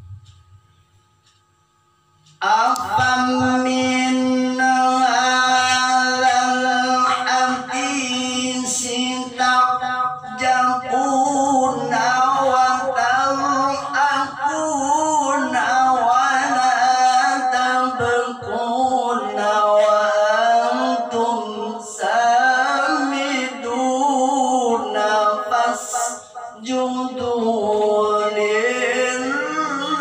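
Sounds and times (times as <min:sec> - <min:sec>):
man reciting in melodic chant: 0:02.2 - 0:30.0.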